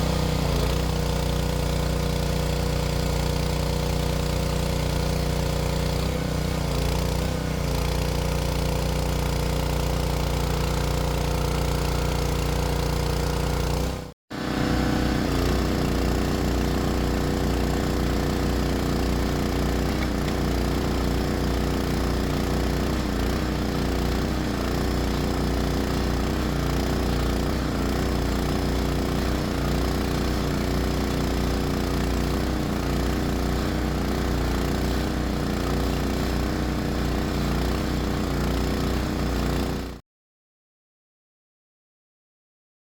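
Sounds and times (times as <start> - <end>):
small gasoline engine running: 0.0 - 40.0.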